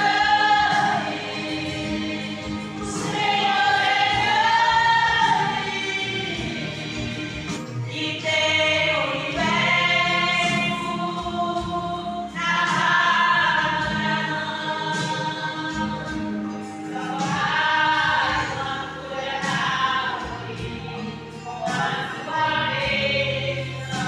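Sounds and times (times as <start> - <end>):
woman singing through loudspeaker: 0.0 - 24.0
women singing a hymn: 0.0 - 24.0.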